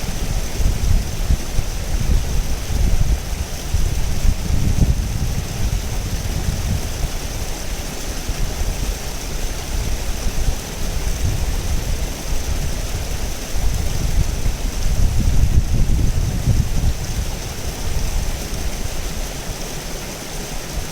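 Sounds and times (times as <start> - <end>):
river water rushing: 0.0 - 20.9.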